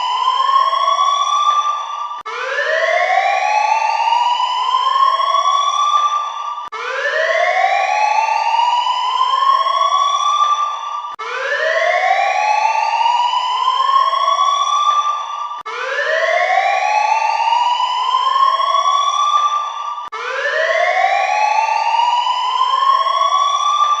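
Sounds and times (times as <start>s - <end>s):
alarm siren wailing: 0.0s - 24.0s.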